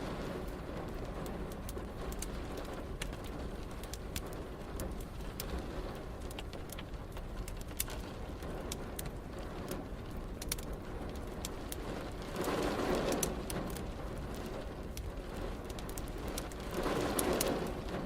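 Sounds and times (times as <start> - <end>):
rain hissing: 0.0 - 18.0
wood fire crackling with pops: 0.0 - 18.0.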